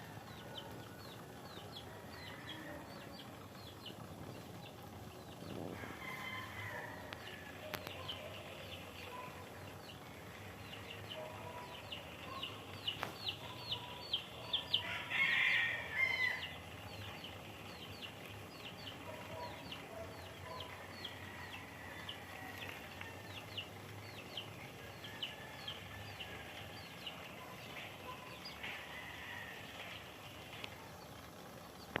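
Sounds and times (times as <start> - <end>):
birds chirping high: 0.0 - 32.0.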